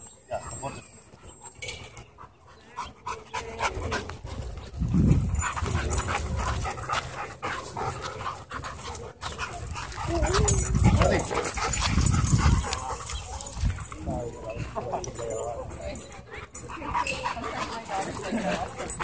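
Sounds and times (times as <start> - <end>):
dogs panting and scuffling: 0.0 - 19.0.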